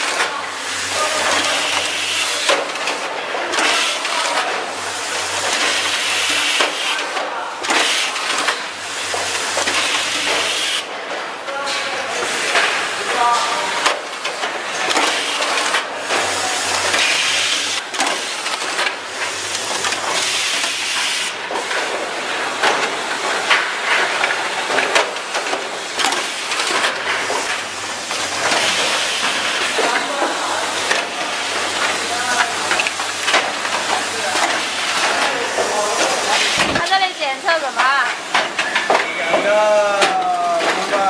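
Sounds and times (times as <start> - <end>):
machine parts clicking and clacking: 0.0 - 0.4, 1.0 - 4.6, 5.3 - 41.0
assembly machine hissing: 0.0 - 10.9, 12.2 - 23.1, 24.1 - 41.0.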